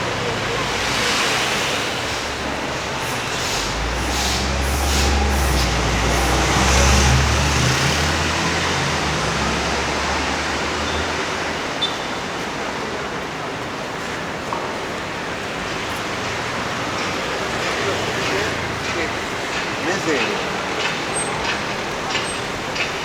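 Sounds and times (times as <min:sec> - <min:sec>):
diesel engine rumbling past: 0:00.0 - 0:11.7, 0:15.6 - 0:23.0
steady traffic noise: 0:00.0 - 0:23.0.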